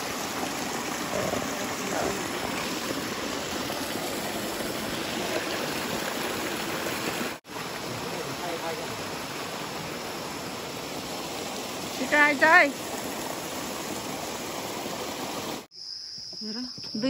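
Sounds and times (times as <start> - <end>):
stream rushing over boulders: 0.0 - 15.7.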